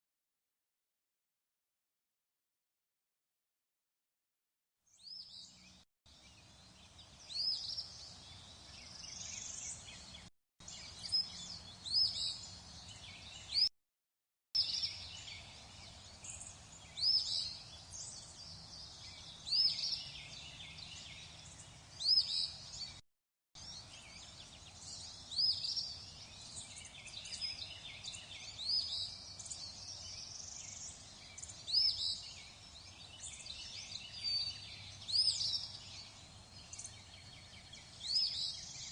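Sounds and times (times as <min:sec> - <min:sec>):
birds chirping: 0:04.9 - 0:13.7, 0:14.6 - 0:23.0, 0:23.6 - 0:38.9.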